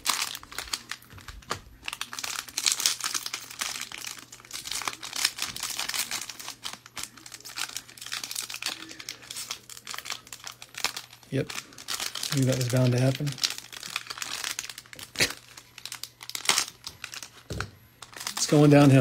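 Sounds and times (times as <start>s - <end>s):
foil wrapper crinkling and tearing: 0.0s - 19.0s.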